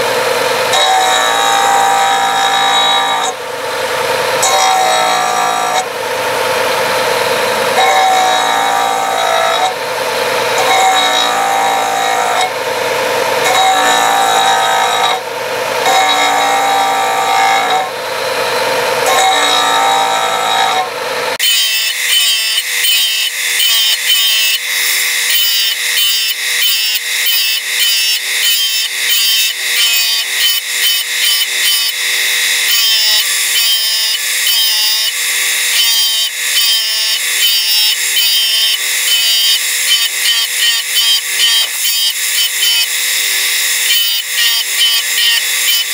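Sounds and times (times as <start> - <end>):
disc sander grinding resin: 0.0 - 45.9.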